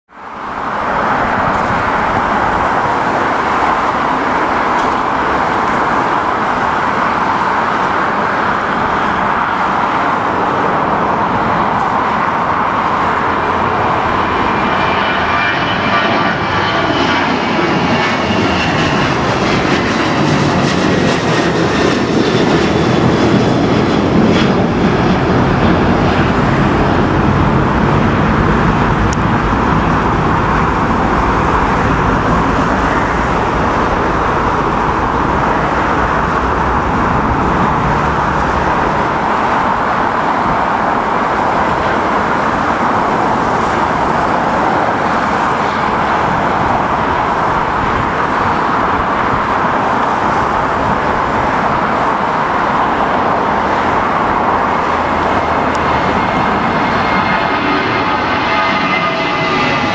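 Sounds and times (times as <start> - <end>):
jet engines at takeoff power: 0.1 - 59.9.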